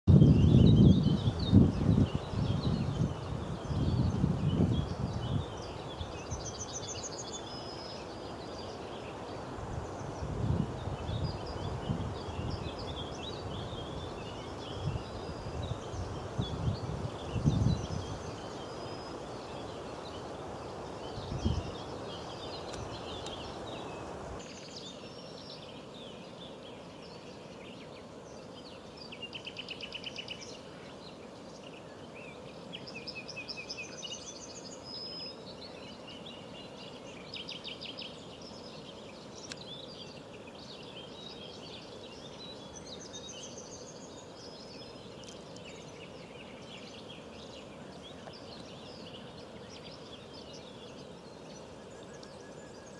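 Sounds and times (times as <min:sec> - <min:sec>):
small birds calling and singing: 0:00.0 - 0:52.9
steady outdoor hiss: 0:00.1 - 0:52.9.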